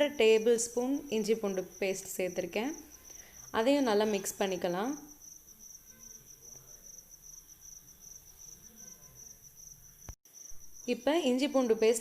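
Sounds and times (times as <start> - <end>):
cricket chirping: 0.3 - 12.0.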